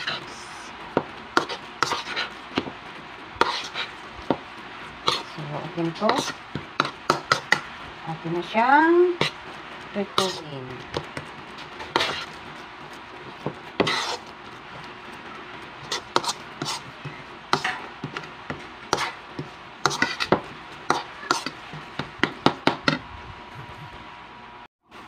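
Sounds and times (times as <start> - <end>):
fork mashing mixture in bowl: 0.0 - 23.0.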